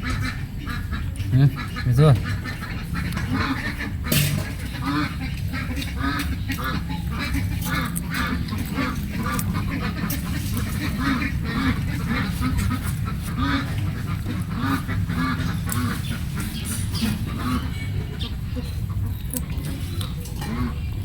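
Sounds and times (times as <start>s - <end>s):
ducks quacking: 0.0s - 21.0s
steady low rumble: 1.6s - 21.0s.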